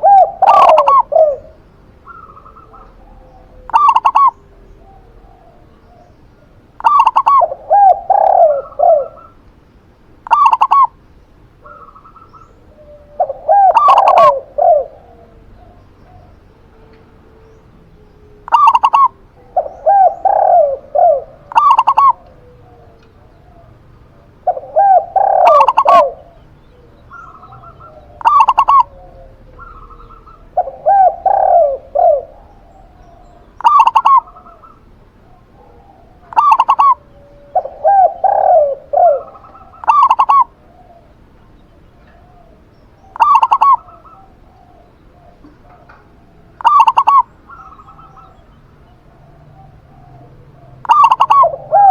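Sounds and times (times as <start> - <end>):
doves cooing: 0.0 - 51.9.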